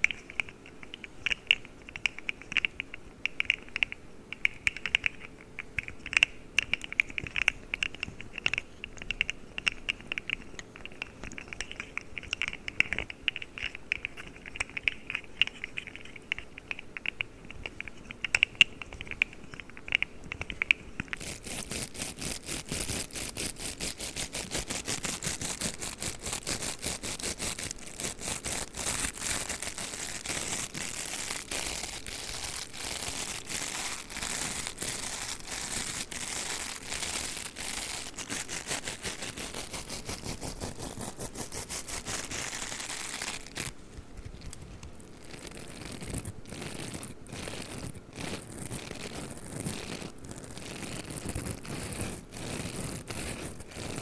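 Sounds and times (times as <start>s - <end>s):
hair roller scratching: 6.9s - 54.0s.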